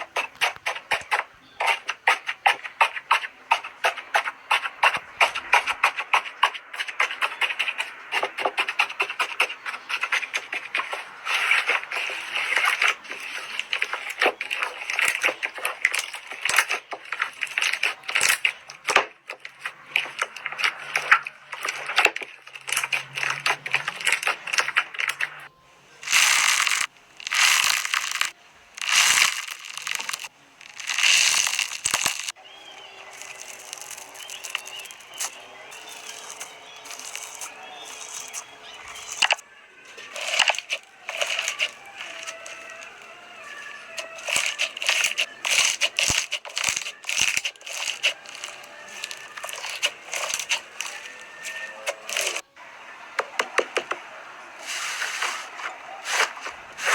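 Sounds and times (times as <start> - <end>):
slime squishing: 0.0 - 32.4, 33.1 - 39.4, 40.0 - 52.4.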